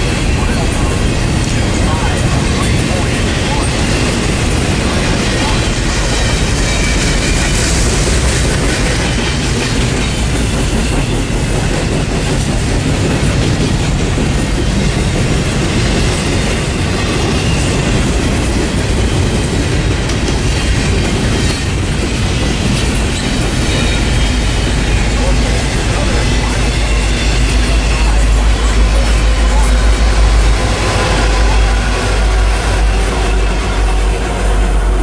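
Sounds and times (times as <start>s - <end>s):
wheels clattering on rail: 0.0s - 34.4s
train rumbling past: 0.0s - 35.0s.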